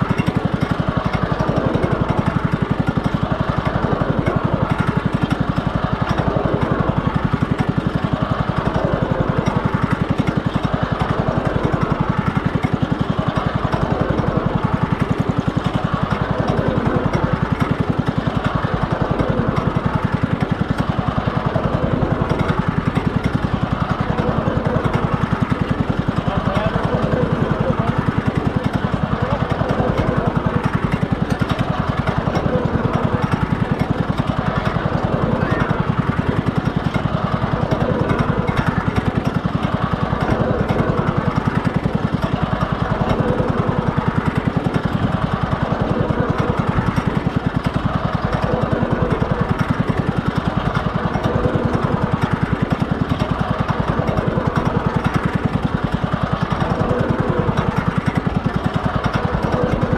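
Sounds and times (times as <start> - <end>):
small engine puttering: 0.0 - 59.9.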